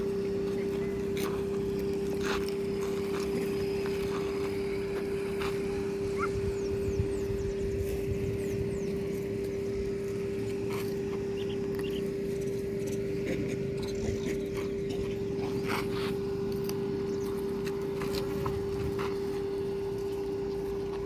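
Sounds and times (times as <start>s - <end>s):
low outdoor rumble: 0.0s - 21.0s
steady mid-pitched hum: 0.0s - 21.0s.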